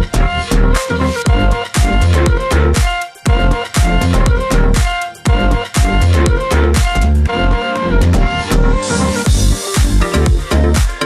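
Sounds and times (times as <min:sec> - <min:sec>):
background music: 0:00.0 - 0:11.0
steady kick drum: 0:00.0 - 0:11.0.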